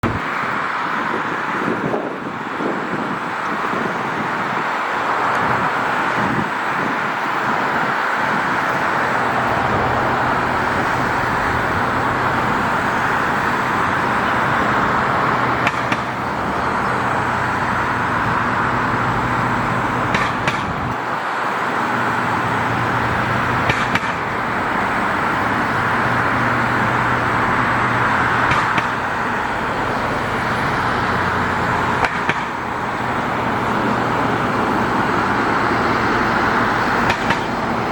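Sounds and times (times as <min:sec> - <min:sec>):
low engine hum: 0:00.0 - 0:37.9
road traffic: 0:00.0 - 0:37.9.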